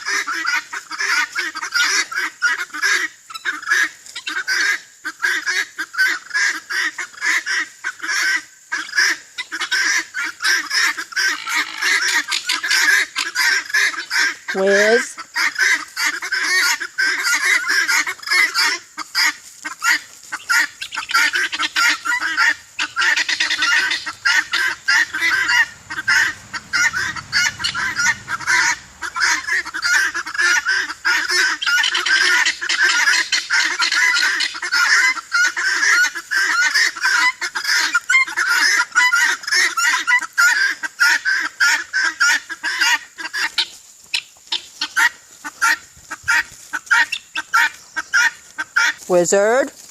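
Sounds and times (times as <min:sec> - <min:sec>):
flock of birds honking: 0:00.0 - 0:49.9.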